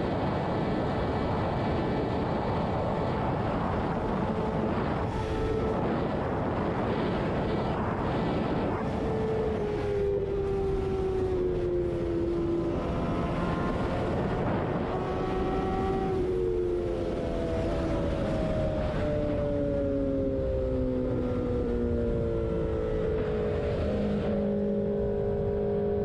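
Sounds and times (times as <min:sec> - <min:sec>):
motorcycle engine at speed: 0:00.0 - 0:26.0
wind noise: 0:00.0 - 0:26.0.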